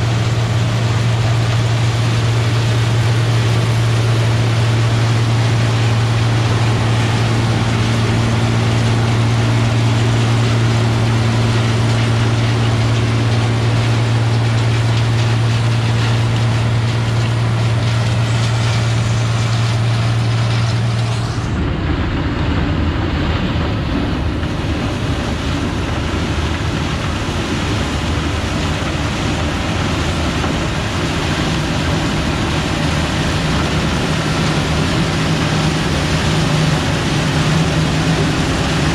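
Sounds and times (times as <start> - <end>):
farm machinery humming: 0.0 - 38.9
rough machine sound: 0.0 - 38.9.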